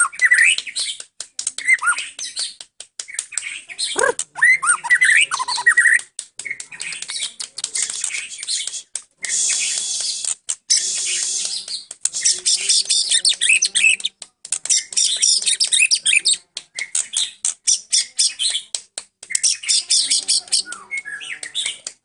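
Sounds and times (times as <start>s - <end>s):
bird singing chirps and trills: 1.6s - 8.7s, 10.7s - 22.0s.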